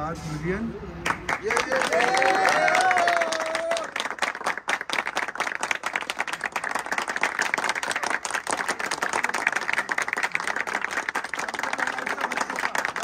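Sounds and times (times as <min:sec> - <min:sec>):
people clapping: 0:01.0 - 0:13.0.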